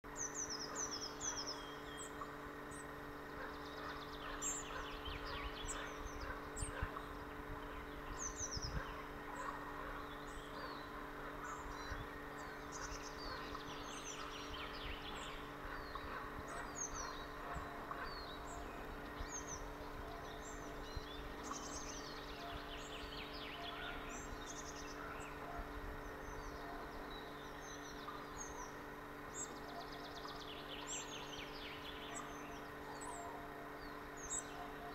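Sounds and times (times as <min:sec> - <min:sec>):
birds chirping: 0:00.1 - 0:34.9
steady background hum: 0:00.1 - 0:34.9.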